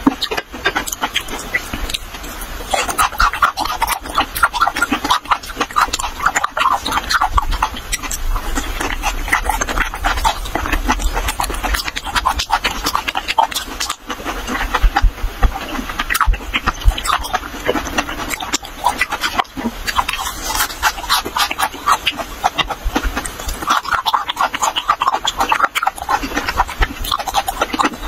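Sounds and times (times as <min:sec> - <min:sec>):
person chewing wetly: 0:00.0 - 0:28.0.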